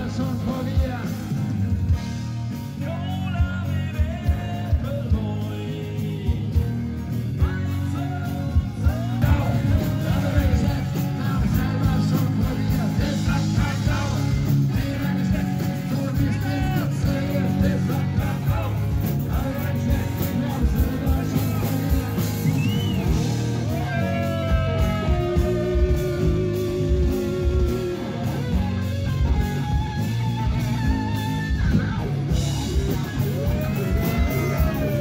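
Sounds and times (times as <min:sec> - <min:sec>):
rock band music with guitar: 0:00.0 - 0:35.0.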